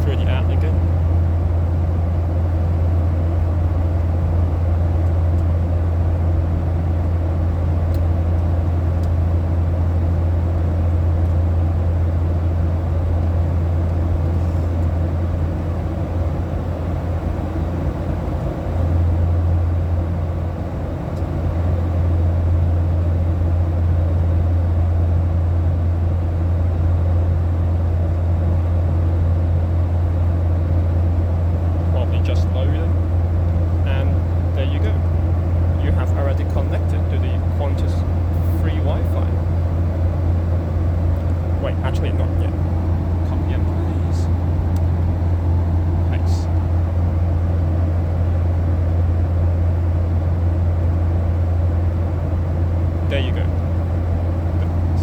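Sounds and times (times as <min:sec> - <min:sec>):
rush of air and engine noise: 0:00.0 - 0:24.3, 0:26.1 - 0:55.0
airplane cabin hum: 0:00.0 - 0:55.0.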